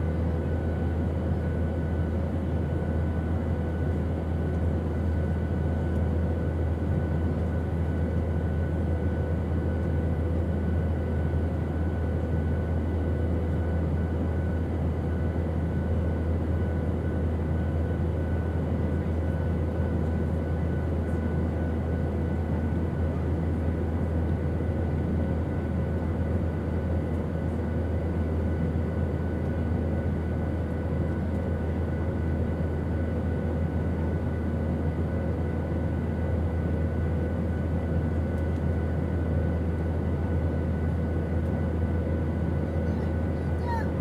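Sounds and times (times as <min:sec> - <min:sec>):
airplane engines droning: 0:00.0 - 0:44.0.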